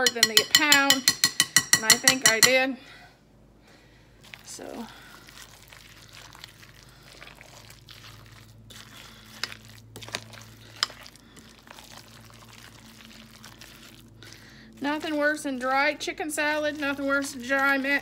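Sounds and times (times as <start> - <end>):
wet stirring of salad: 0.0 - 2.6, 4.2 - 18.0.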